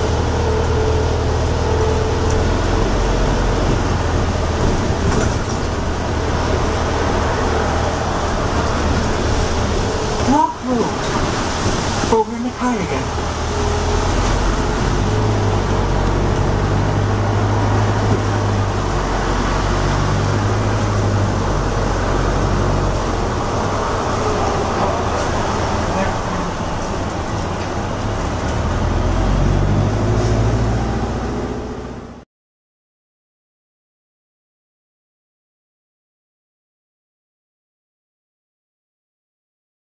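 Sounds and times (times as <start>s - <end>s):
bus drivetrain hum: 0.0s - 32.2s
tyre noise on wet road: 0.0s - 32.2s.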